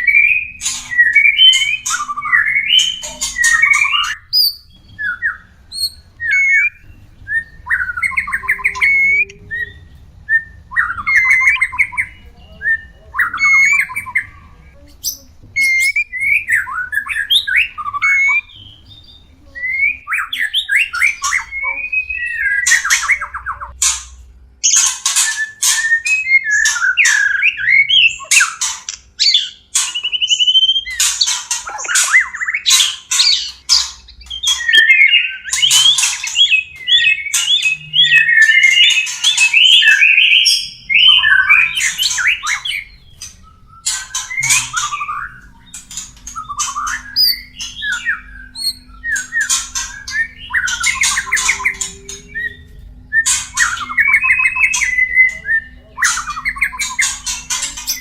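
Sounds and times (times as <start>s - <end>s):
bird whistled phrases: 0.0s - 23.8s, 24.6s - 58.0s
birds chattering harshly: 0.0s - 58.0s.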